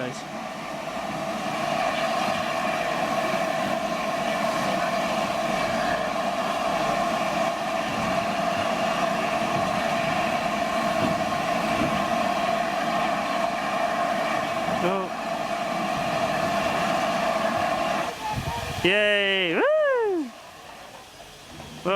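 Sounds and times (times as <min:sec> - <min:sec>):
steam locomotive steam rushing: 0:00.0 - 0:21.9.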